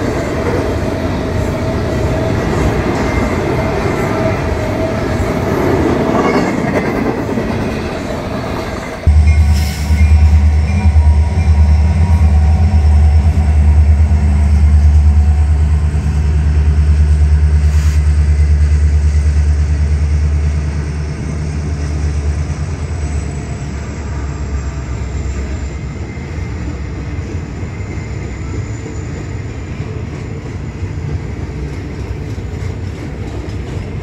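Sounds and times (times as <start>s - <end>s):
diesel locomotive engine rumble: 0.0s - 34.0s
train cars rolling past: 0.0s - 34.0s.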